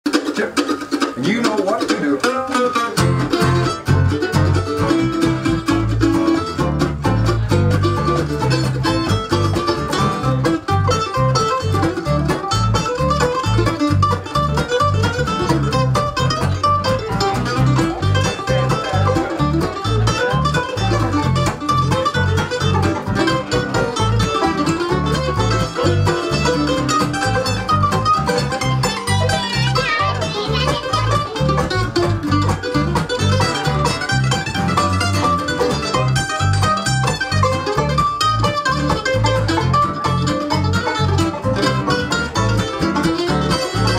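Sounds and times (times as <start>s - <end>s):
bluegrass band playing: 0.0s - 43.9s
bass guitar plucking: 0.1s - 43.9s.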